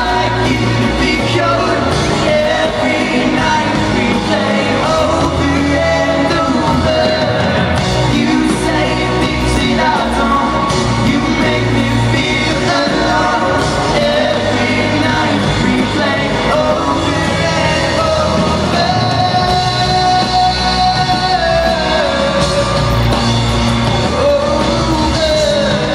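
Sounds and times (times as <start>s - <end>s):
lead vocal singing: 0.0s - 25.9s
live pop-rock band: 0.0s - 25.9s.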